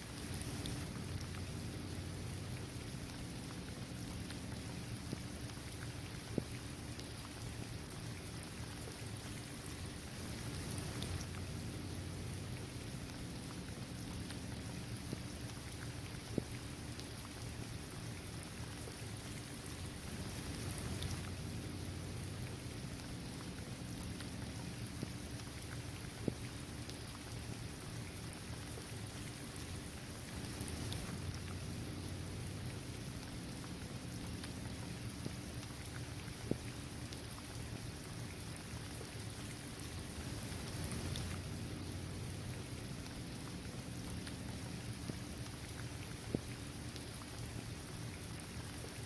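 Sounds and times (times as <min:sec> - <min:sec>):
rain falling on hard ground: 0:00.0 - 0:49.0
raindrops ticking: 0:00.1 - 0:08.4, 0:09.3 - 0:49.0.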